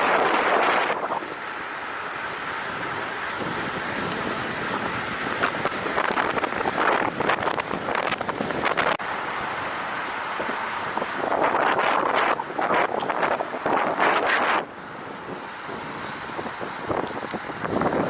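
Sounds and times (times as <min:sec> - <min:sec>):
wind buffeting microphone: 0:00.0 - 0:01.4, 0:02.3 - 0:09.0, 0:10.4 - 0:18.0.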